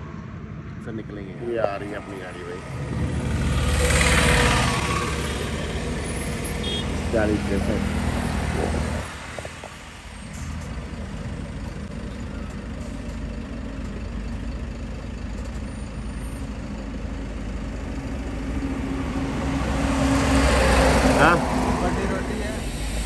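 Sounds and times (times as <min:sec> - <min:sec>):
truck diesel engine idling: 0:01.2 - 0:23.0.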